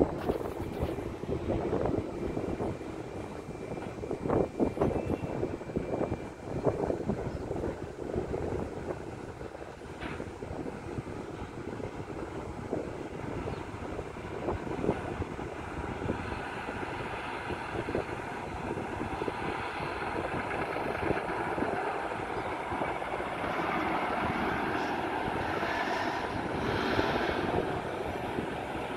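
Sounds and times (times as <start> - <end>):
distant jet engine rumble: 0.0 - 28.9.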